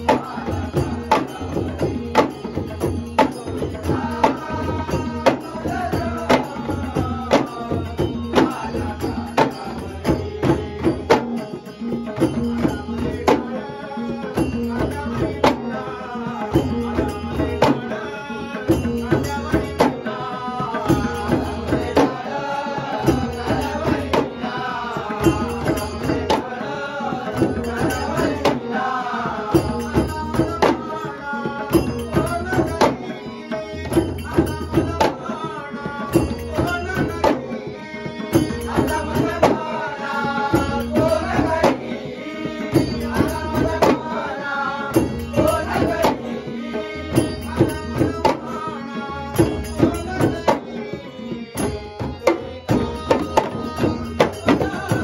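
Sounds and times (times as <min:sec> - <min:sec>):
harmonium: 0:00.0 - 0:55.0
old man singing: 0:00.0 - 0:55.0.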